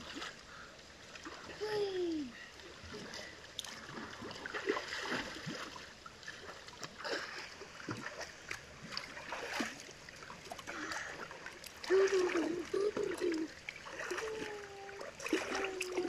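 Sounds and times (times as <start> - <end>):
pool water splashing: 0.0 - 16.0.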